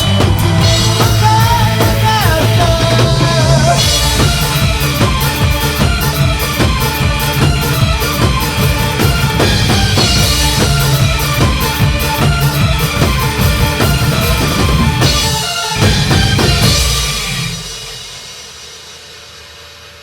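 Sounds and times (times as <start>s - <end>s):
bass: 0.0s - 18.2s
drum kit: 0.0s - 20.0s.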